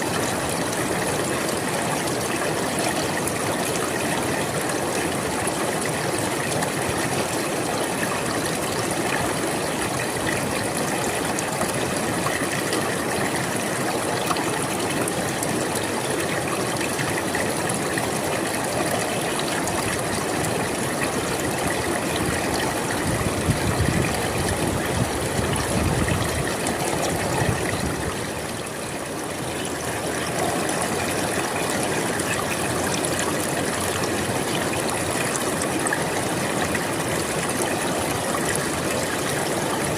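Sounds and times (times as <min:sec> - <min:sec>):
river water splashing over stones: 0:00.0 - 0:39.9.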